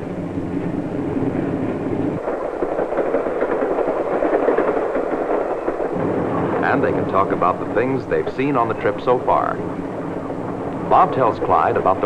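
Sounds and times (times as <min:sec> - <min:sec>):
train clattering on rails: 0:00.0 - 0:12.0.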